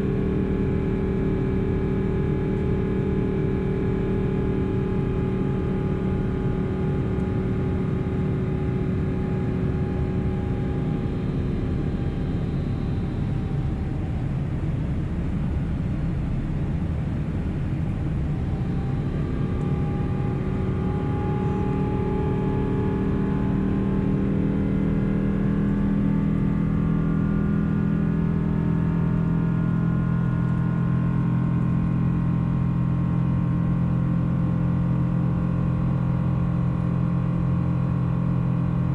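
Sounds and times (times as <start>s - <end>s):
jet engine rumble inside cabin: 0.0s - 38.9s.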